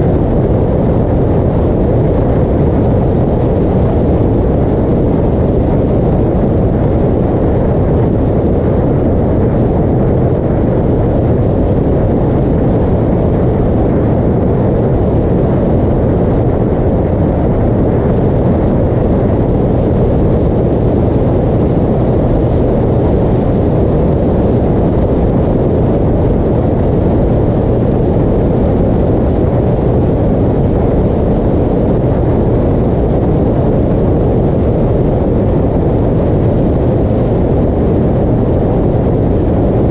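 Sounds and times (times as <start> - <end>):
motorcycle engine drone: 0.0 - 39.9
wind rush over microphone: 0.0 - 39.9.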